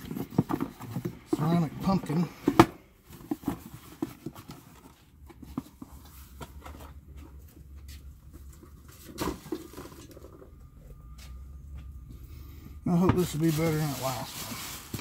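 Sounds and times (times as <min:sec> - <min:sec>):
taps and rustles of items moved: 0:00.0 - 0:12.1.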